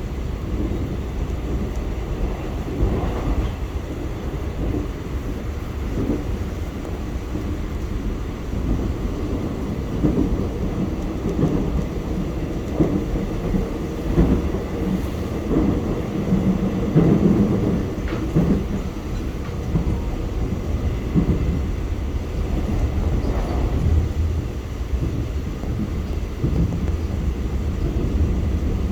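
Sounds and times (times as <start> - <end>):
subway train rumble: 0.0 - 28.9
wheels clacking on rails: 0.0 - 28.9.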